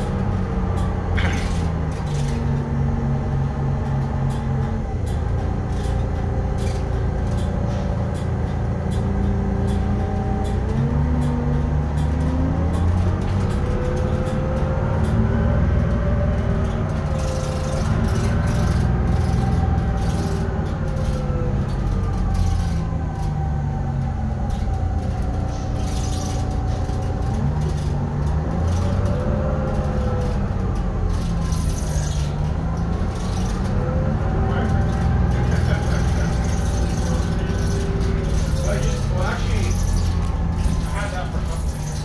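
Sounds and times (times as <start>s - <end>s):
bus diesel engine rumbling: 0.0s - 42.0s.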